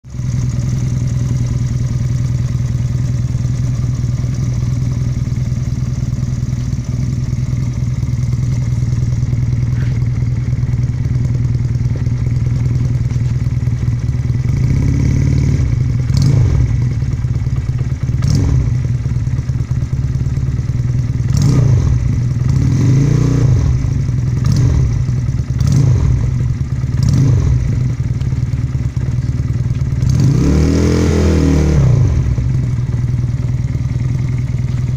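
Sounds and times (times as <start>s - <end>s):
motorcycle idling and revving: 0.0s - 34.9s.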